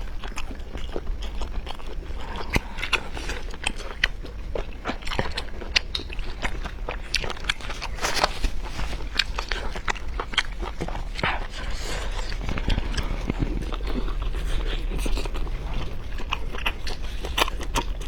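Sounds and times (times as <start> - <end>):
steady low hum: 0.0 - 18.0
wet chewing and mouth smacks: 0.0 - 18.0.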